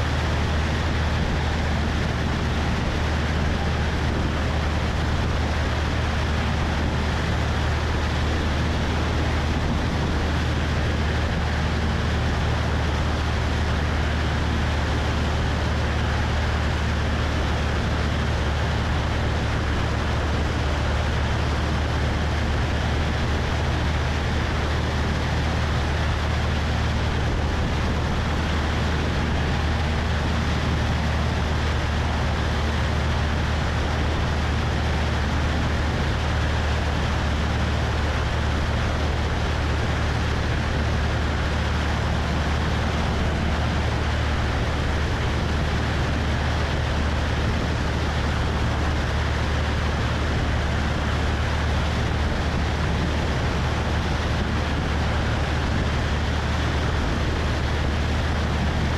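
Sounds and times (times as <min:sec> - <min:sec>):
airplane engine and propeller droning: 0:00.0 - 0:58.9.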